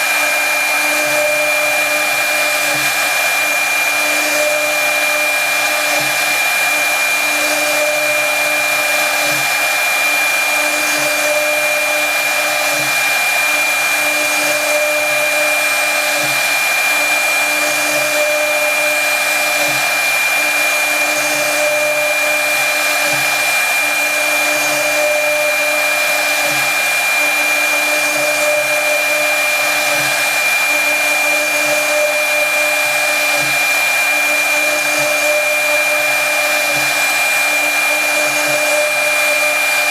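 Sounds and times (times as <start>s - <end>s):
hiss of cutting wood: 0.0s - 39.9s
router spindle whine: 0.0s - 39.9s.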